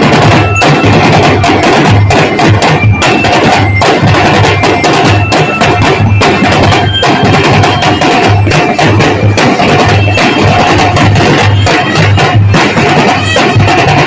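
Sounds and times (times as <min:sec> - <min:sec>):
drum and bugle corps playing: 0:00.0 - 0:14.0
snare drum strokes: 0:00.0 - 0:14.0.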